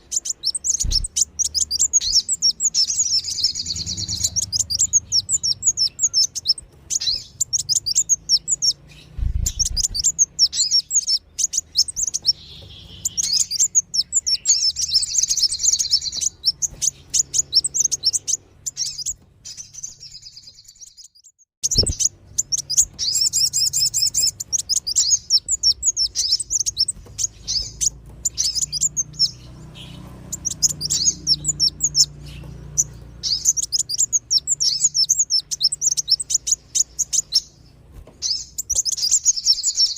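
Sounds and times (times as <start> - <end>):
rapid high-pitched bird trills: 0.0 - 39.9.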